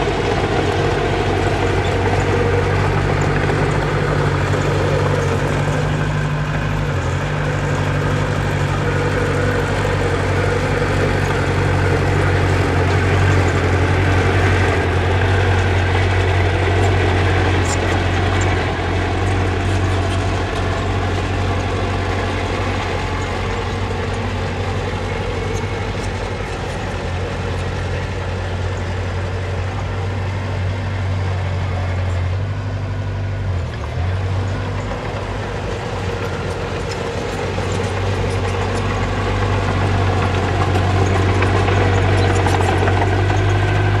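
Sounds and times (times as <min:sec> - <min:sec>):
bulldozer diesel engine droning: 0:00.0 - 0:44.0.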